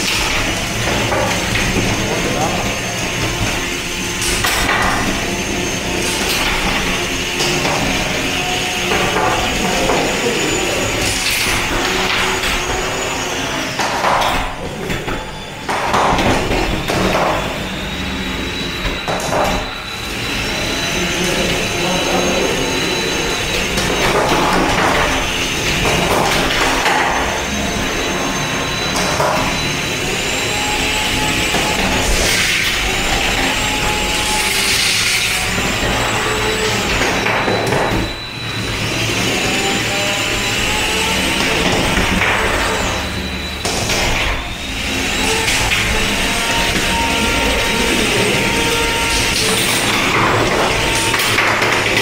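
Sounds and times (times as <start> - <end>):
high-pitched motor whine: 0.0 - 52.0.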